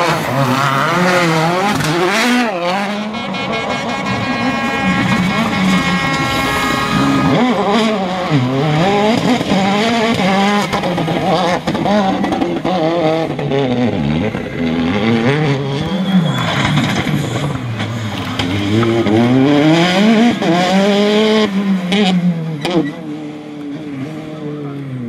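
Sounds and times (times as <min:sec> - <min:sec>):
rally car engines accelerating: 0:00.0 - 0:25.0.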